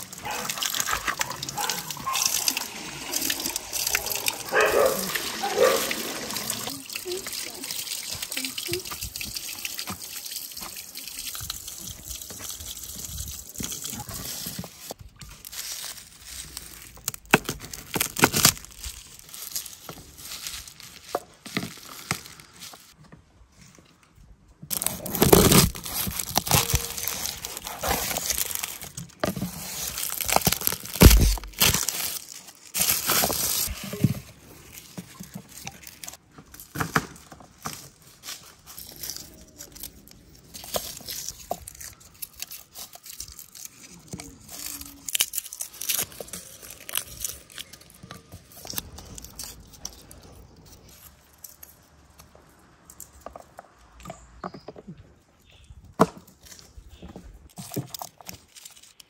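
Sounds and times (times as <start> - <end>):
herbs rustling and crinkling: 0.0 - 24.1, 24.7 - 53.9, 56.3 - 59.0.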